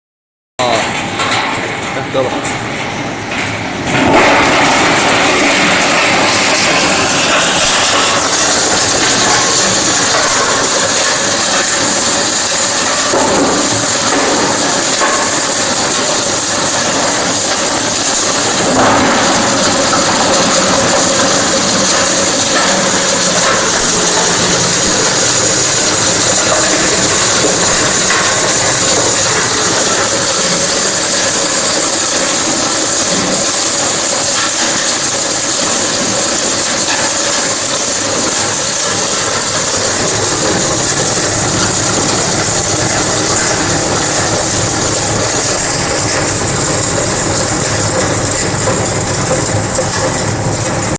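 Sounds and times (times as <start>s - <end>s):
bone crusher crushing bones: 3.9s - 50.9s.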